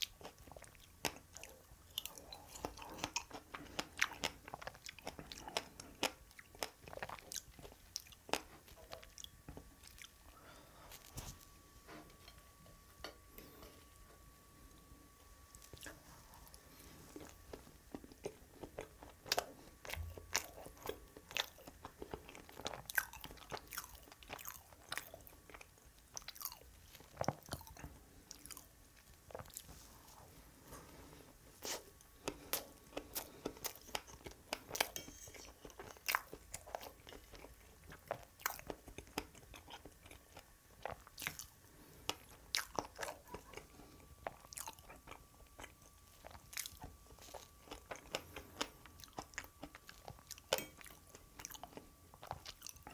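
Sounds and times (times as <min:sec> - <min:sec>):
wet sticky chewing: 0:00.0 - 0:11.4, 0:15.5 - 0:29.7, 0:31.6 - 0:41.5, 0:42.1 - 0:52.9.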